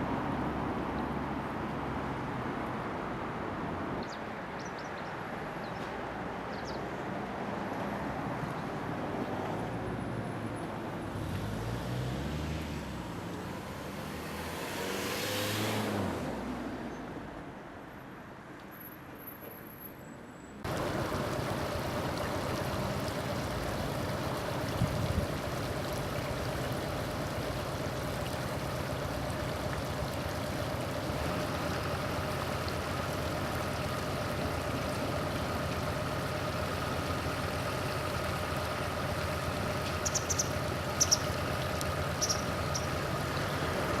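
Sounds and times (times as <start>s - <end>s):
distant road traffic hum: 0.0s - 44.0s.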